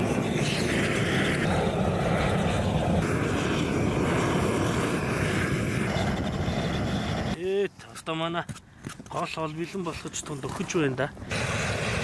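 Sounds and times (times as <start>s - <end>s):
blowtorch burning: 0.0s - 7.4s, 8.1s - 12.0s.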